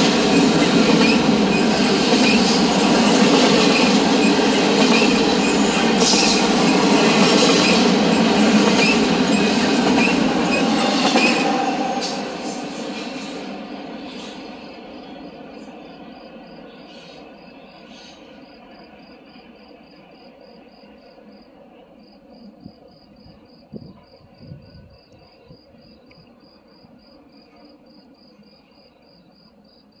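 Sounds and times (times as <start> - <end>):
freight train rumble: 0.0 - 29.6
insect chirping: 0.0 - 30.0.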